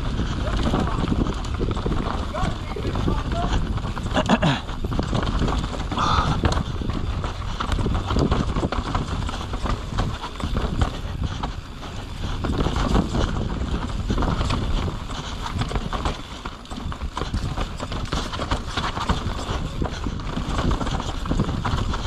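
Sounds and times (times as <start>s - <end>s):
mountain bike rattling over rocks: 0.0s - 22.0s.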